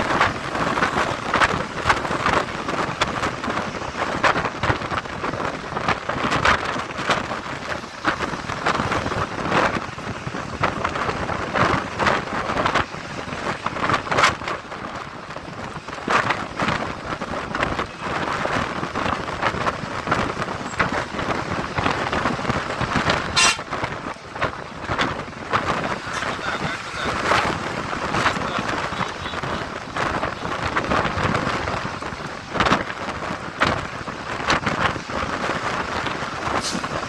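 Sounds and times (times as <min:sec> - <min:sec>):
road and traffic noise: 0:00.0 - 0:37.0
wind buffeting microphone: 0:00.0 - 0:37.0.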